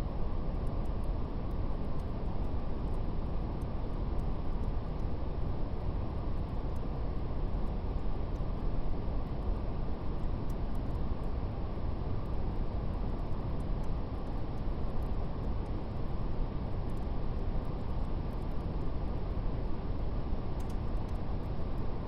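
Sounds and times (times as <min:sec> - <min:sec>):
faint fire crackles: 0:00.0 - 0:22.0.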